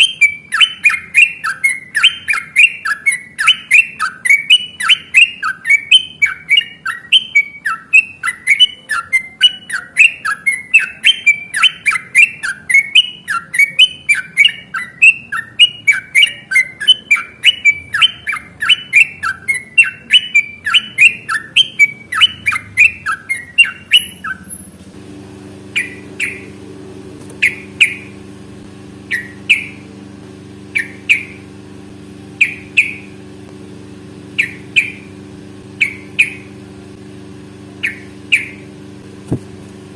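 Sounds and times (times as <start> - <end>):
bird call notes: 0.0 - 24.7, 25.6 - 26.7, 27.3 - 28.3, 29.0 - 33.4, 34.0 - 39.0
bulbul chattering song: 0.0 - 24.8, 25.4 - 39.3
low steady hum: 0.0 - 39.9.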